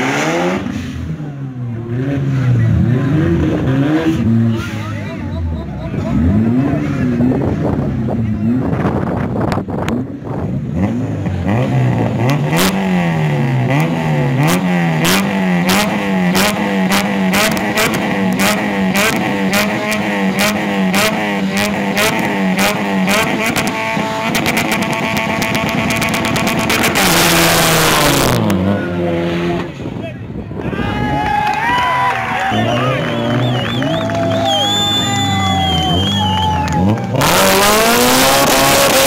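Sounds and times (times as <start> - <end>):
car accelerating away: 0.0 - 30.0, 31.0 - 39.0
car engine revving with cracks: 0.0 - 30.0, 32.6 - 39.0.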